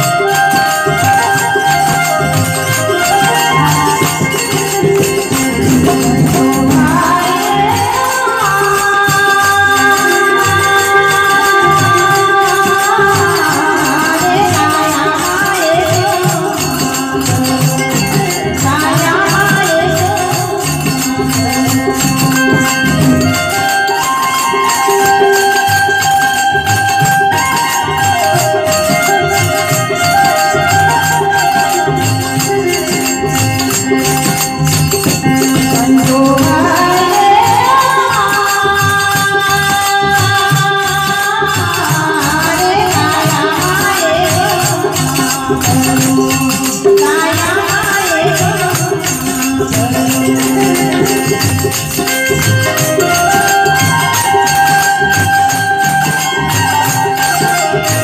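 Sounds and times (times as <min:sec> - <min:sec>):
harmonium: 0:00.0 - 0:58.0
percussion beat: 0:00.0 - 0:58.0
woman singing: 0:00.0 - 0:58.0.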